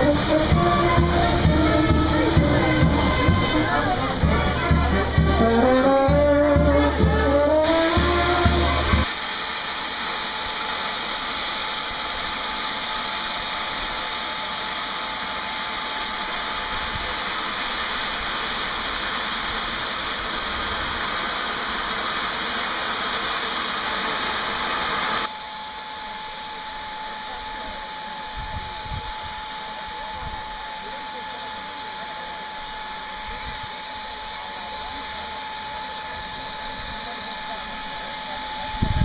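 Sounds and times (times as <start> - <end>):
steam locomotive hissing: 0.0 - 39.0.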